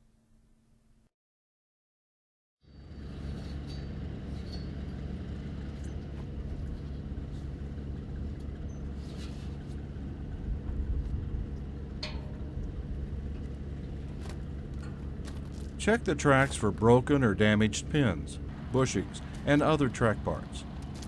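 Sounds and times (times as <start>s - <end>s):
engine idling: 2.7s - 21.0s.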